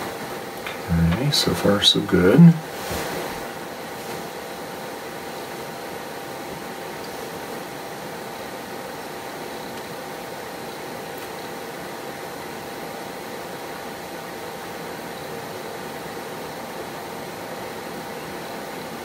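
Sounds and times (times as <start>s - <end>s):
room noise hiss: 0.0s - 19.0s.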